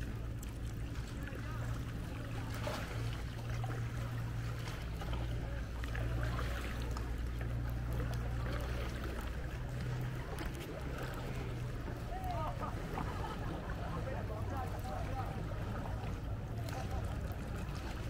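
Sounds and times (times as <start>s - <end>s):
water lapping and trickling: 0.0s - 18.0s.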